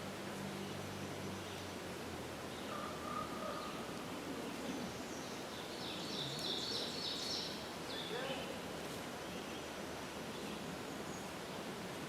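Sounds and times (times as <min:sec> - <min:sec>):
wind through trees: 0:00.0 - 0:12.0.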